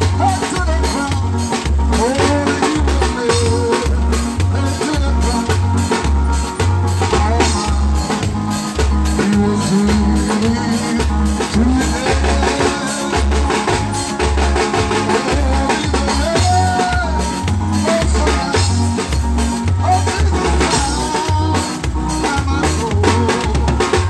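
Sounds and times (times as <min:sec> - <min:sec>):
bending melody line: 0:00.0 - 0:24.0
drum kit with cymbals: 0:00.0 - 0:24.0
heavy bass notes: 0:00.0 - 0:24.0
live band playing amplified music: 0:00.0 - 0:24.0.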